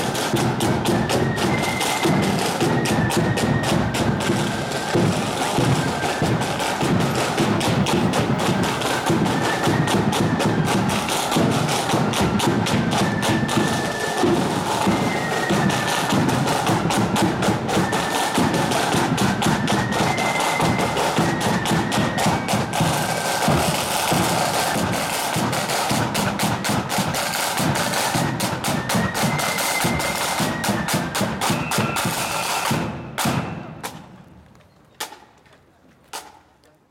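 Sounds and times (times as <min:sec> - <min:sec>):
snare drumming: 0:00.0 - 0:34.1
marching band playing: 0:00.0 - 0:34.2.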